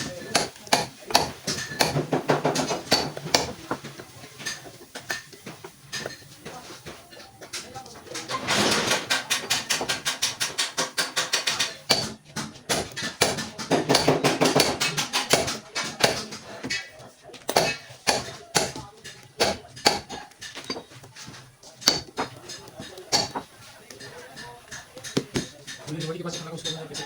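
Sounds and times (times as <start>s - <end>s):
voices: 0.0s - 27.0s.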